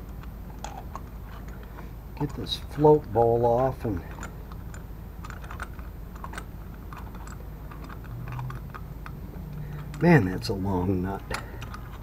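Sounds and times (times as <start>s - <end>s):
fingers turning a nut clicking: 0.1s - 12.0s.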